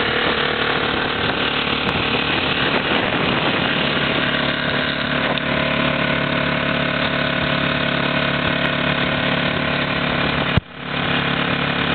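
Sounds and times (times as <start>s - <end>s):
quad engine running: 0.0s - 11.9s.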